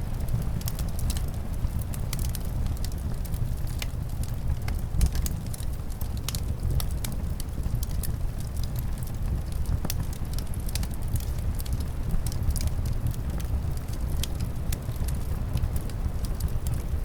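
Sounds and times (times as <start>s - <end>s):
low rumble of wind: 0.0s - 17.0s
wood fire crackling: 0.0s - 17.0s.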